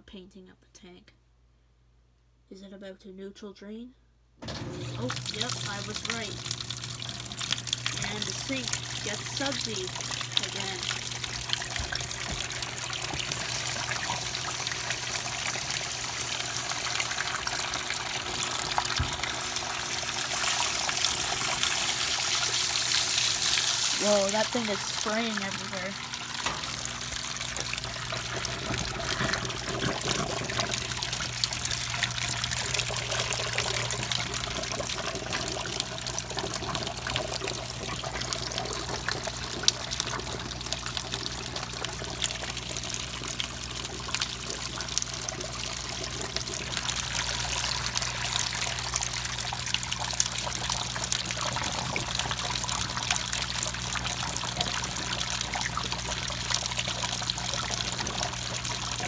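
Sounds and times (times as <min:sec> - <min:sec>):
drain pump humming: 0:04.4 - 0:59.0
water pouring into sink: 0:04.4 - 0:59.0.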